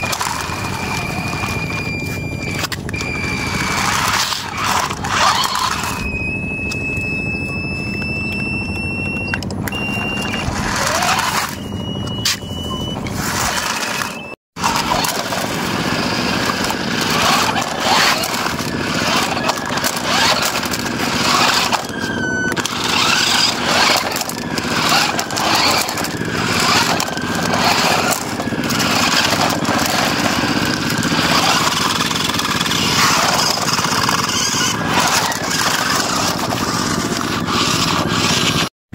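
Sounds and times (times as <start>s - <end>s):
toy car motors whining and grinding: 0.0s - 38.7s.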